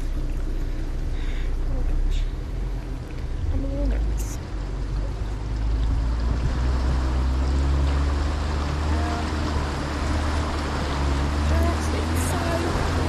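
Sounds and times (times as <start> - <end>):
truck engine humming: 0.0 - 13.0
tyre and trail noise: 0.0 - 13.0.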